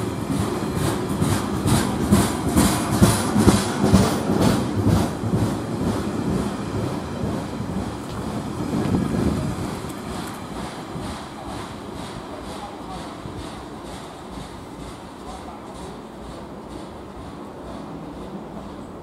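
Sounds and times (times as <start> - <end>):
freight train rumbling past: 0.0 - 19.0
wheels clacking over rail joints: 0.0 - 19.0.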